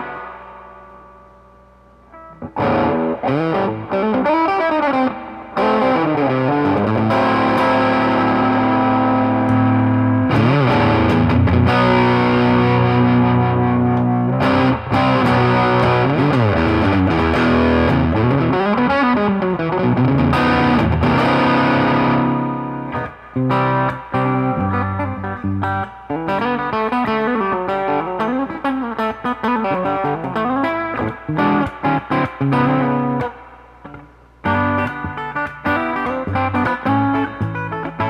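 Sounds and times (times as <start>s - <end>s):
distorted electric guitar: 0.0s - 38.0s.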